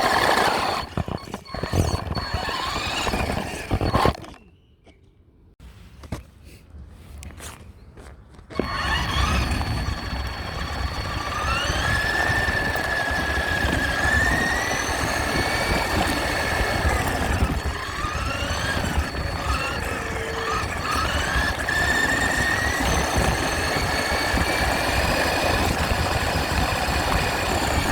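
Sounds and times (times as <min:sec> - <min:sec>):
rc truck motor whine: 0:00.0 - 0:04.4, 0:08.6 - 0:27.9.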